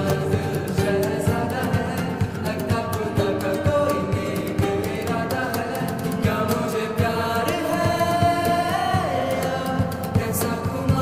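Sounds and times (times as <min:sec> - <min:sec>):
percussion beat: 0:00.0 - 0:11.0
person singing: 0:00.0 - 0:11.0.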